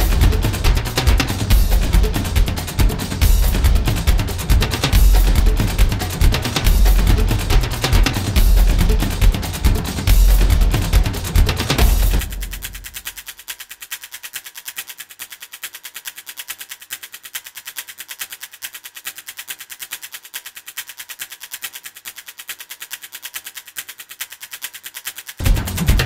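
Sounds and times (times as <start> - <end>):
fast ticking pulse: 0.0 - 18.3, 22.6 - 26.0.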